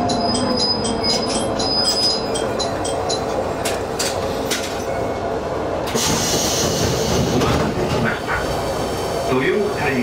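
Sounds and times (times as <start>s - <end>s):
railcar engine and wheels rumbling: 0.0s - 10.0s.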